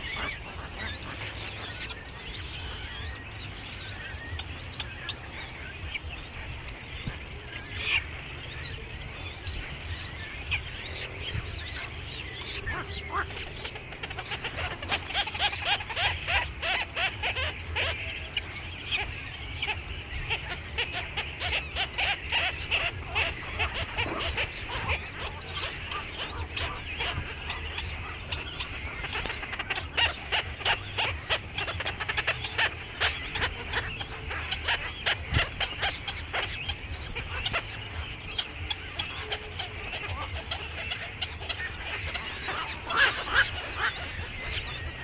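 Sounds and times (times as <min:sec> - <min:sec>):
flock of small birds chirping: 0:00.0 - 0:45.0.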